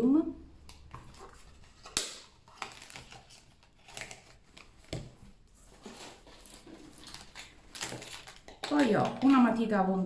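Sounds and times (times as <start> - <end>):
packaging rustling: 0.9 - 9.4.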